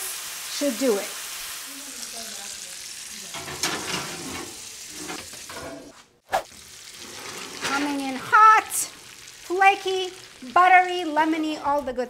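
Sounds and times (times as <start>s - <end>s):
sauce sizzling in a skillet: 0.0s - 5.6s, 6.4s - 11.6s.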